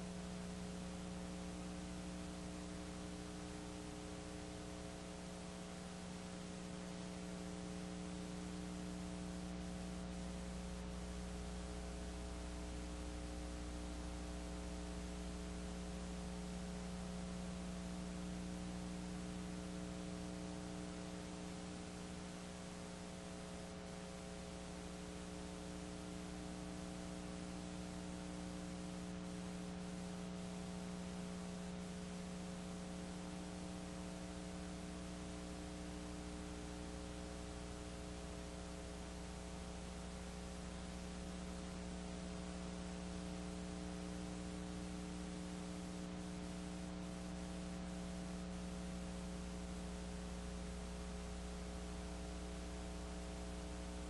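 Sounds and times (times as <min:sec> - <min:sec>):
electrical mains hum: 0:00.0 - 0:54.0
tape hiss: 0:00.0 - 0:54.0.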